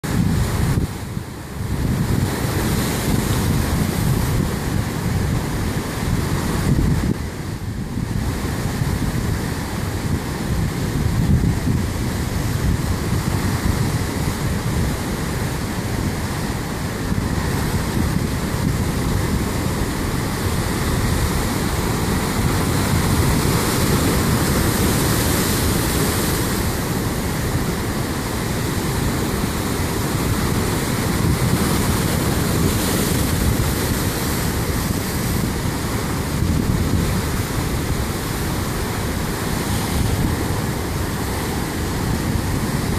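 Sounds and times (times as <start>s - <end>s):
surf crashing over rocks: 0.0s - 42.9s
wind buffeting microphone: 0.0s - 42.9s.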